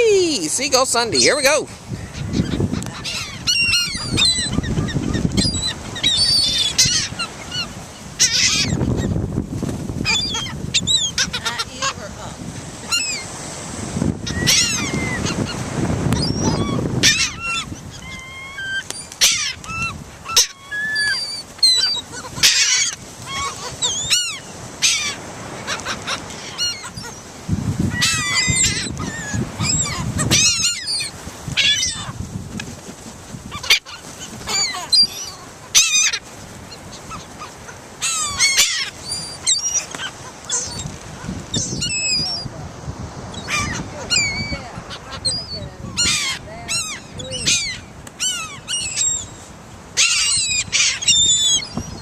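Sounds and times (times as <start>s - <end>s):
seagulls calling: 0.0s - 9.3s, 9.9s - 13.4s, 14.2s - 32.2s, 33.4s - 42.5s, 43.2s - 52.0s.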